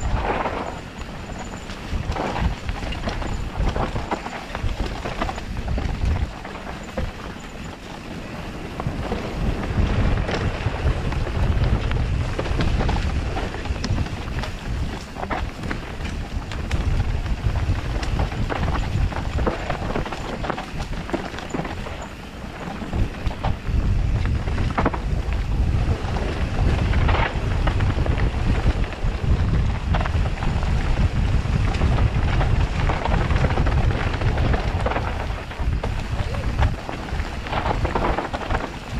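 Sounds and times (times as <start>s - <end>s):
bike clattering on rough trail: 0.0s - 38.9s
wind buffeting microphone: 0.0s - 38.9s.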